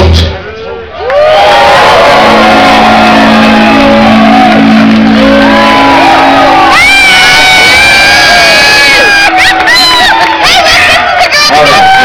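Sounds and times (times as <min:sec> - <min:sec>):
people shouting: 0:01.3 - 0:12.0.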